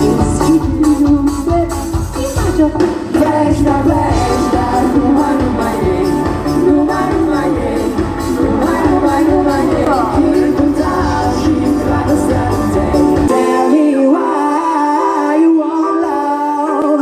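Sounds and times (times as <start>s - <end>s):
live pop music with singer: 0.0s - 17.0s.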